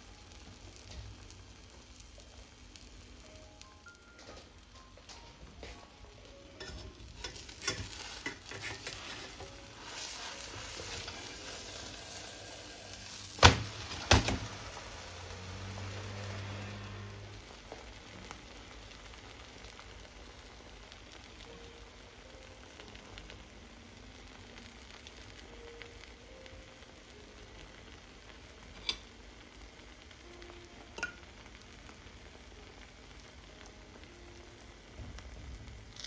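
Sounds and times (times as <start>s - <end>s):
food sizzling in pan: 0.0s - 36.0s.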